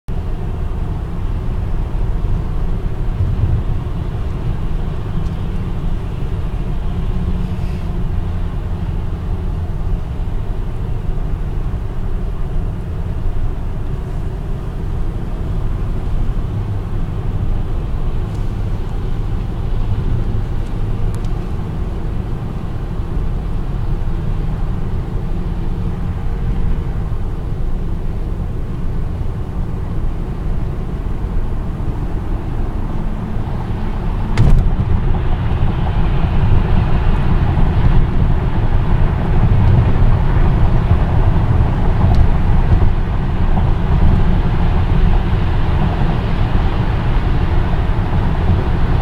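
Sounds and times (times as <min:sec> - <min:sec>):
road and tyre noise: 0:00.1 - 0:49.0.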